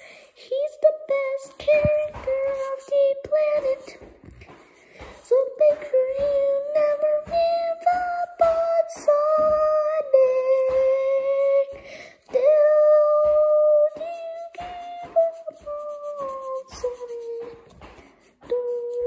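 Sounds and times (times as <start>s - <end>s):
high voice singing held notes: 0.5s - 19.0s
steady clicking beat: 1.5s - 19.0s.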